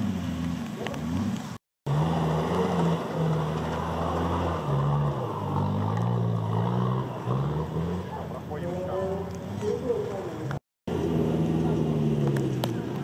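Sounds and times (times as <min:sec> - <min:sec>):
off-road vehicle engine working hard: 0:00.0 - 0:13.0.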